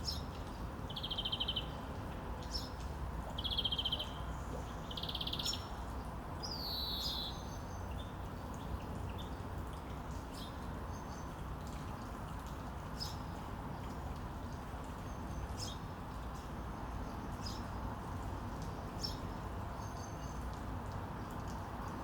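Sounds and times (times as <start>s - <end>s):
outdoor ambience hiss: 0.0s - 22.0s
songbirds chirping: 0.0s - 22.0s.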